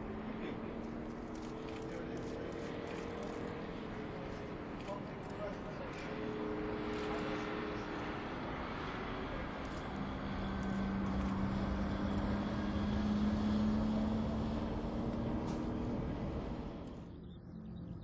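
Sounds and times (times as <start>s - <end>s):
jet engines roaring: 0.0s - 17.1s.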